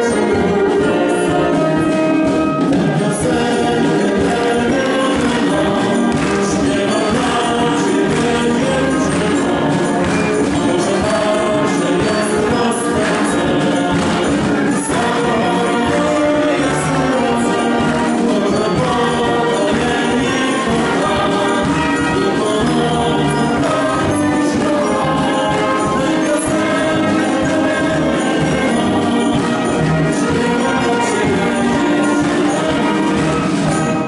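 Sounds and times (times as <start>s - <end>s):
concert band playing: 0.0s - 34.0s
man and woman singing: 2.8s - 33.8s.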